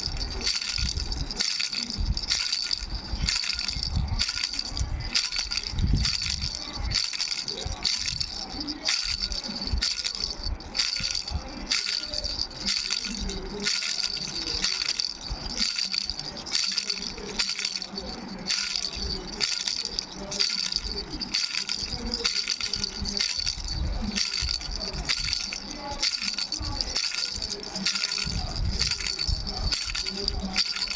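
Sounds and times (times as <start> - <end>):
baby rattle bells jingling: 0.0 - 30.9.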